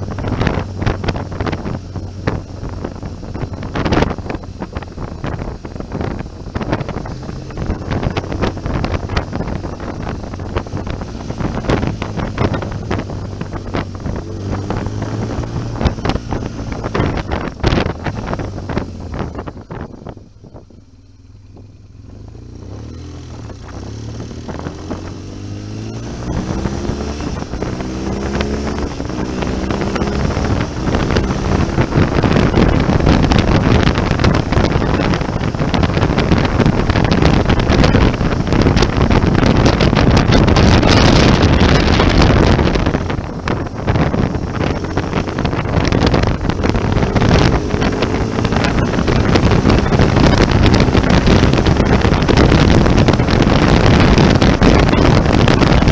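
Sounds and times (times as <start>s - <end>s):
motorcycle engine shifting up gears: 0.0s - 55.9s
wind rush on microphone: 0.0s - 55.9s.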